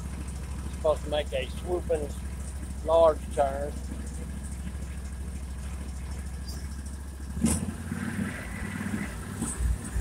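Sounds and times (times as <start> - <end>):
atv engine running: 0.0 - 8.0.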